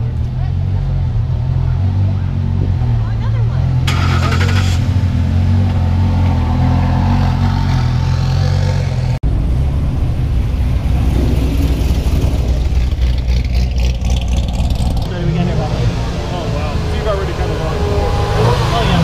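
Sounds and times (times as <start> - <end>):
deep car engine driving by: 0.0 - 19.0
sports car engine rolling past: 0.0 - 19.0.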